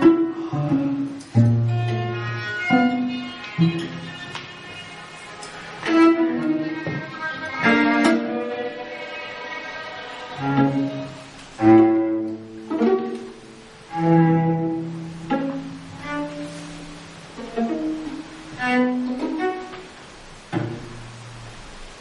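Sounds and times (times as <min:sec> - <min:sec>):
string ensemble playing: 0:00.0 - 0:21.4.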